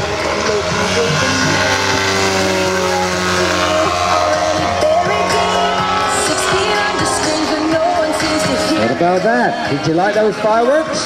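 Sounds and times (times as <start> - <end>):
music with singing over loudspeakers: 0.0 - 11.0.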